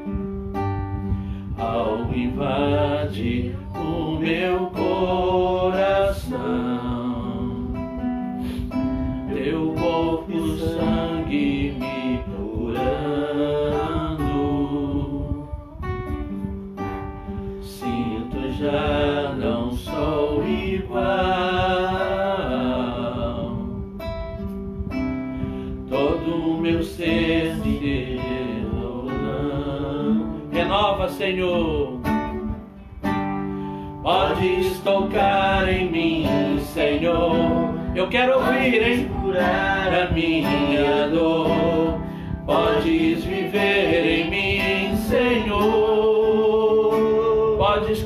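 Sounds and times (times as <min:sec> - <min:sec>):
acoustic guitar strumming: 0:00.0 - 0:48.0
man singing: 0:01.5 - 0:08.1, 0:09.2 - 0:15.6, 0:17.7 - 0:23.9, 0:25.9 - 0:32.3, 0:34.0 - 0:48.0.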